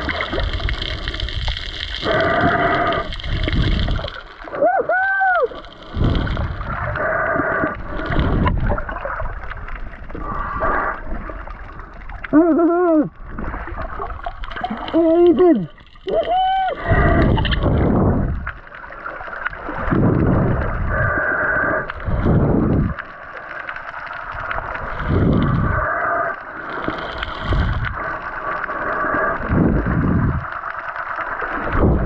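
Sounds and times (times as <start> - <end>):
underwater water gurgling and rushing: 0.0 - 32.0.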